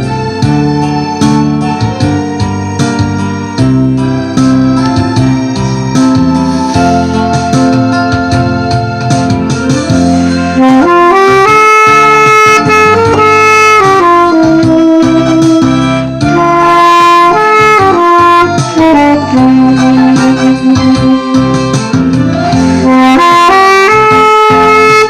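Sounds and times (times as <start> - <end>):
backing accompaniment: 0.0 - 25.0
saxophone melody: 0.0 - 25.0.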